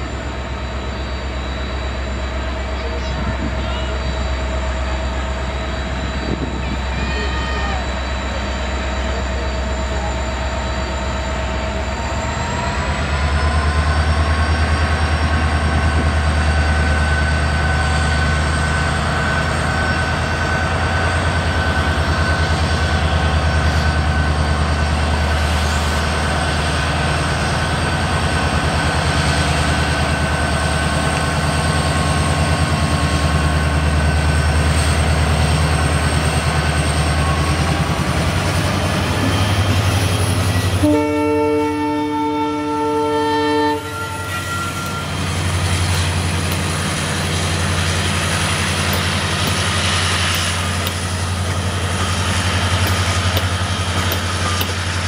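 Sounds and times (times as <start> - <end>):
locomotive engine drone: 0.0 - 55.0.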